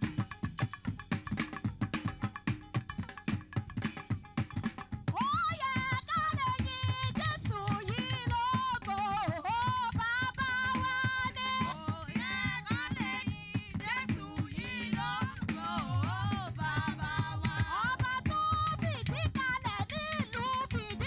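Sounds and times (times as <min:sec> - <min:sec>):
hand drums struck with a stick: 0:00.0 - 0:21.0.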